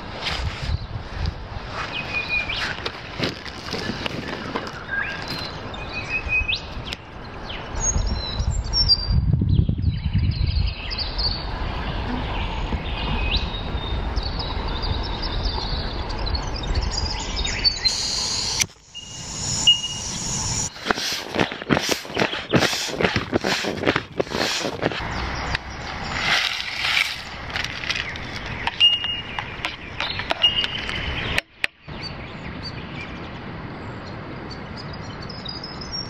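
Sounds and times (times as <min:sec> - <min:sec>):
steady outdoor hiss: 0:00.0 - 0:08.8, 0:10.6 - 0:36.0
small birds chirping: 0:01.7 - 0:36.0.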